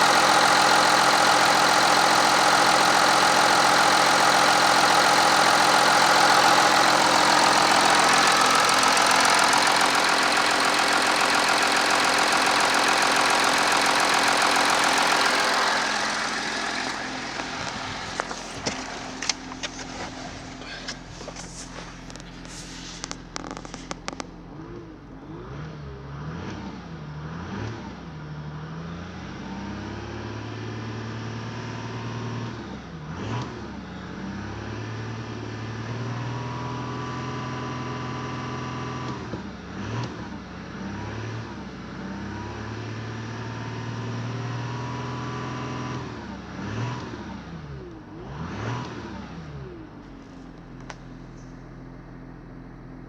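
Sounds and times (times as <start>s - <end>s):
diesel engine revving and idling: 0.0s - 39.0s, 42.0s - 53.0s.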